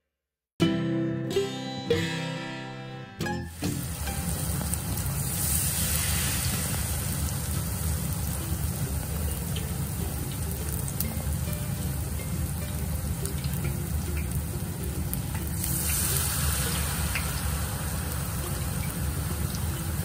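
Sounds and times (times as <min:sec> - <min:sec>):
vegetables deep-frying in oil: 0:03.4 - 0:20.0.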